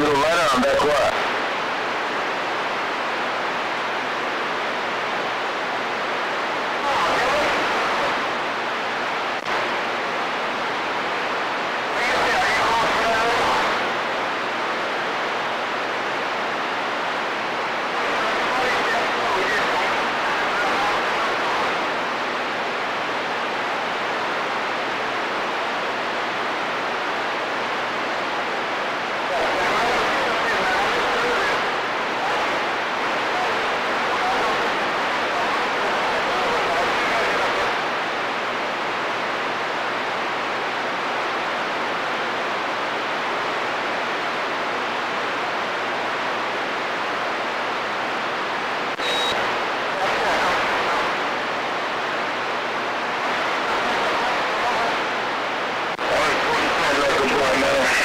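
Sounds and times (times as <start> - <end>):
radio static hiss: 0.0 - 58.0.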